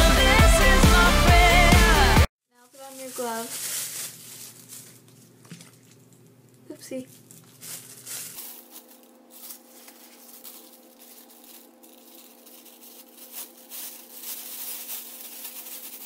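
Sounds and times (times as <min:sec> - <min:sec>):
plastic glove crinkling: 0:02.6 - 0:16.0.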